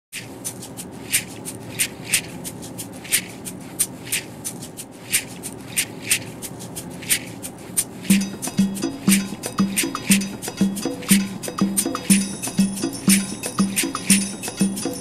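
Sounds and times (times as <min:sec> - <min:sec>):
shaker-like percussion: 0:00.2 - 0:15.0.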